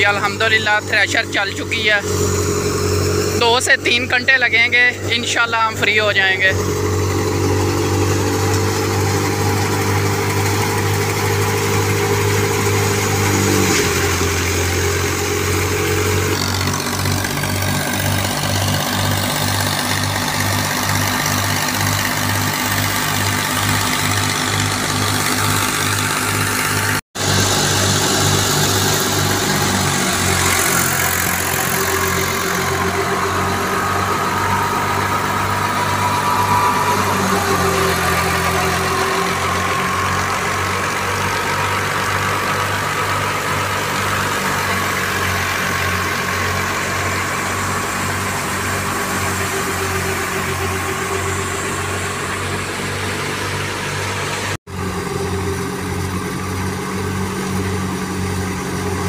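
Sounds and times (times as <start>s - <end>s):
thresher running noise: 0.0s - 59.0s
tractor diesel engine running: 0.0s - 59.0s.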